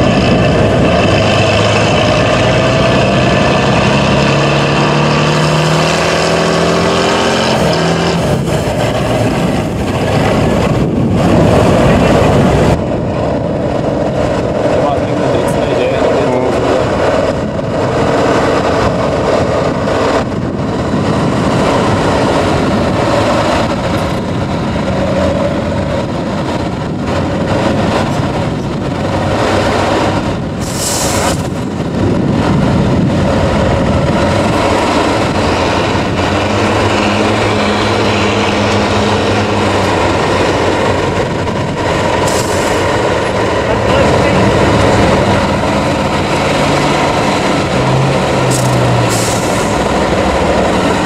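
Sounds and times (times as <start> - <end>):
diesel truck engine running: 0.0 - 51.0.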